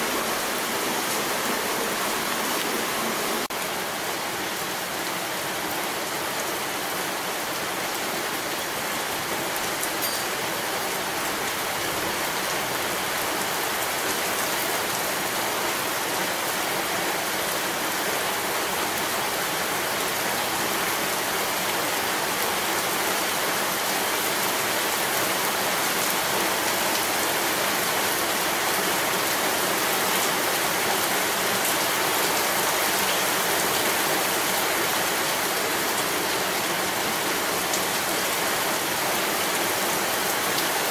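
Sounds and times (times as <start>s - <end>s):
heavy rain on pavement: 0.0s - 40.9s.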